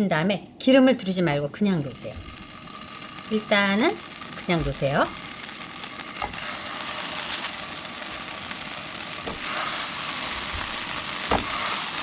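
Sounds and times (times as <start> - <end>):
tofu sizzling in a pan: 1.8 - 12.0.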